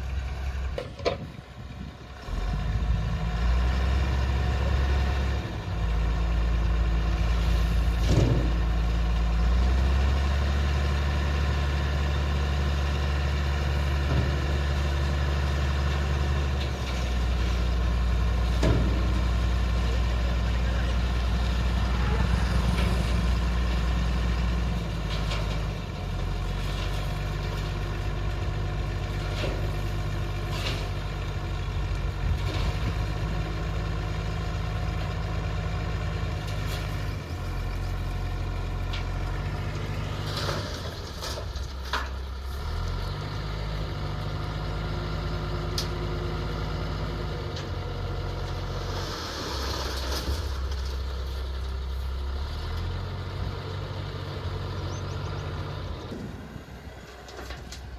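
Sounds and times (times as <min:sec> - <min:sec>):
diesel engine revving: 0:02.0 - 0:57.9.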